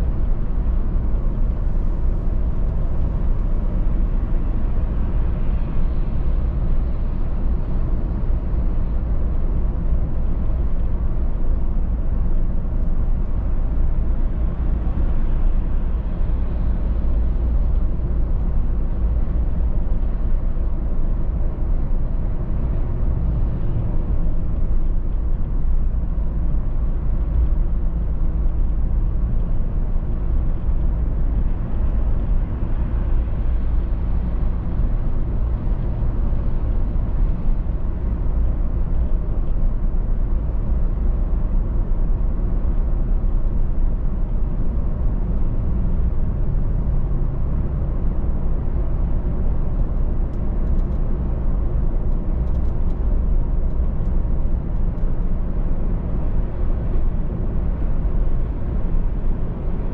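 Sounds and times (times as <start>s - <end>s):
engine and tyre rumble: 0.0s - 59.9s
road and wind hiss: 0.0s - 59.9s.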